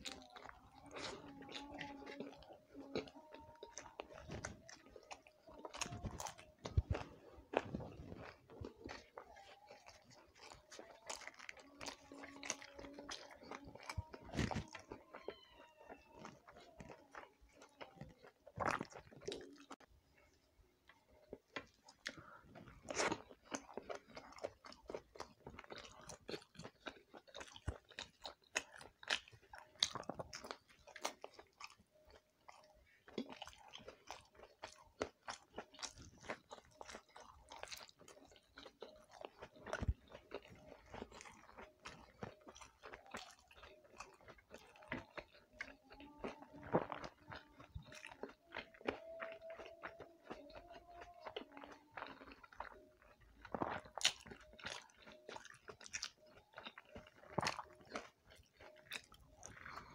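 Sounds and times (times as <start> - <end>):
wet chewing and mouth sounds: 0.0 - 59.9.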